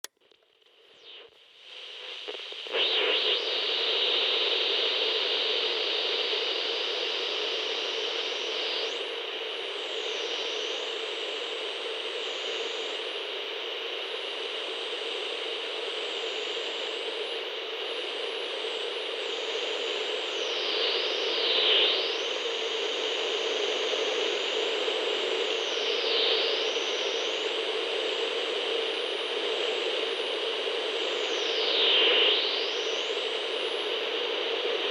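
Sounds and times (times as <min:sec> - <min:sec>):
radio static hiss: 0:00.7 - 0:27.5, 0:28.2 - 0:34.9.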